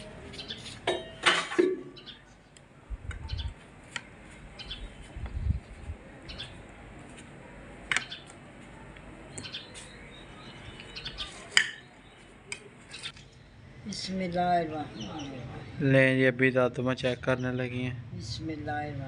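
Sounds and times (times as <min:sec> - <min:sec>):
birds chirping: 0:00.0 - 0:00.8, 0:01.8 - 0:06.8, 0:07.4 - 0:19.0.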